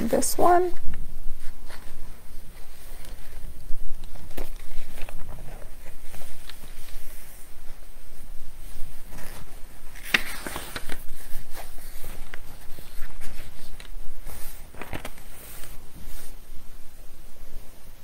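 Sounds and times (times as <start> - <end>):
hands rustling on a desk: 0.8 - 16.5.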